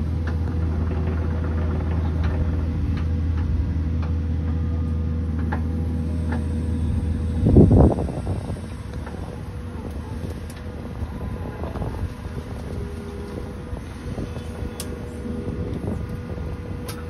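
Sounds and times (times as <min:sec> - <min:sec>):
distant machinery rumble: 0:00.0 - 0:17.0
faint held hum: 0:00.0 - 0:17.0.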